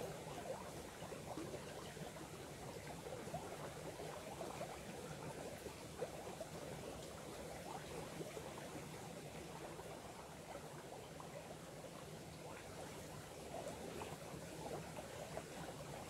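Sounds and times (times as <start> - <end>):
small stream babbling: 0.0 - 16.0.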